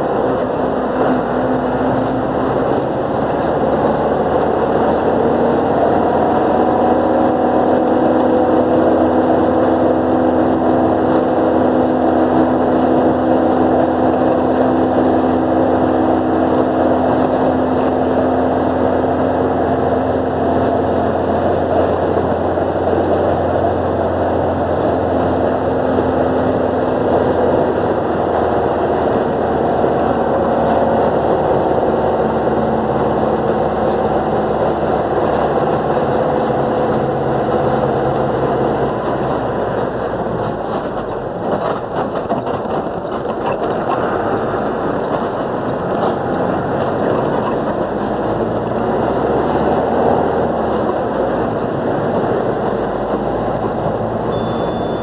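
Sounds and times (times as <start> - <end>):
bus diesel engine running: 0.0 - 55.0
road noise: 0.0 - 55.0.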